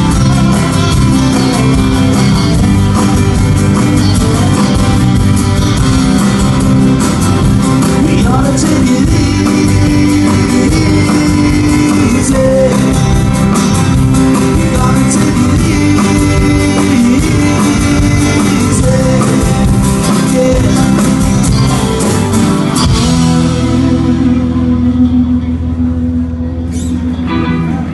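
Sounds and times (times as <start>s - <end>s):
live rock band with singing: 0.0s - 27.9s.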